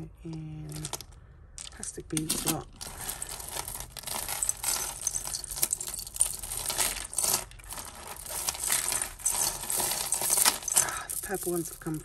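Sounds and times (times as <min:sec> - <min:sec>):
plastic beads clicking and rattling: 0:00.3 - 0:12.0.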